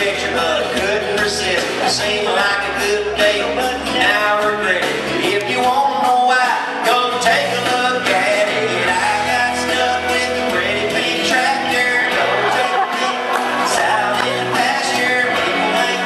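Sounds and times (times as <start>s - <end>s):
electric guitar strumming: 0.0s - 16.0s
man singing into microphone: 0.0s - 16.0s.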